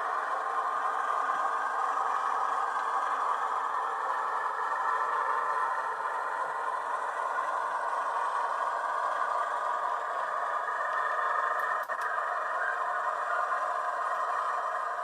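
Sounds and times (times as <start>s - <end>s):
model train rattling on track: 0.0s - 15.0s.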